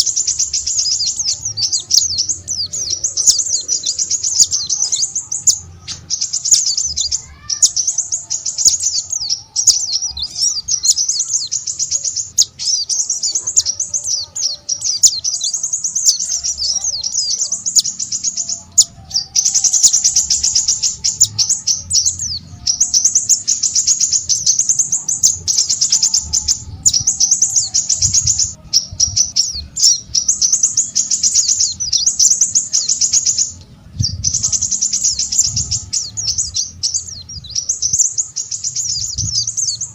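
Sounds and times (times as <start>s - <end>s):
small songbird twittering: 0.0s - 39.9s.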